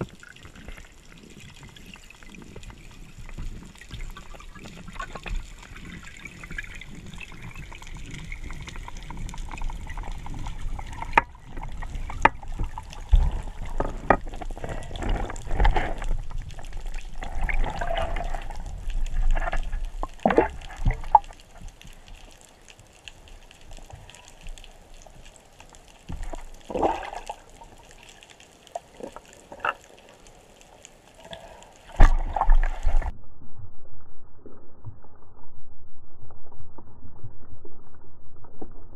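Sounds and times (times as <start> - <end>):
muffled swirling water underwater: 0.0 - 38.9.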